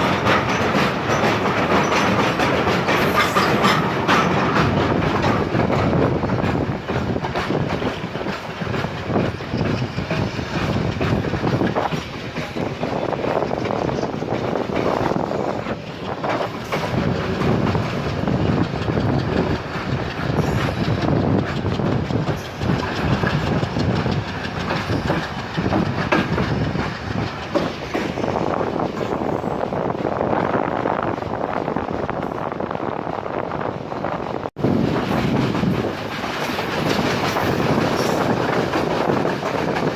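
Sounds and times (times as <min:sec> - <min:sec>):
train wheels clattering: 0:00.0 - 0:33.8, 0:34.4 - 0:39.9
train rumble: 0:00.0 - 0:39.9.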